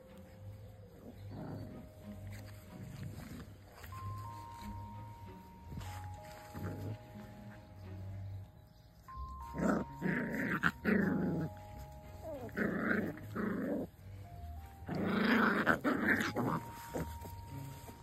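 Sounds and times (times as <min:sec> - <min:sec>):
puppies play-growling: 0:00.0 - 0:04.7, 0:05.9 - 0:07.3, 0:09.2 - 0:18.0
soft background music: 0:00.0 - 0:18.0.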